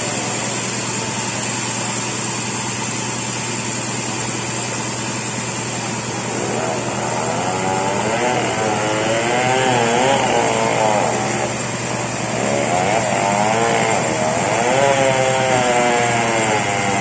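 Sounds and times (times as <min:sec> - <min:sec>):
chainsaw cutting log: 0:00.0 - 0:02.4, 0:05.5 - 0:17.0.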